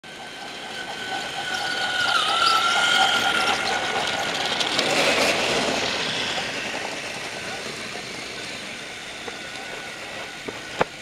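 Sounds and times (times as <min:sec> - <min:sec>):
toy train motor whining: 0:00.1 - 0:11.0.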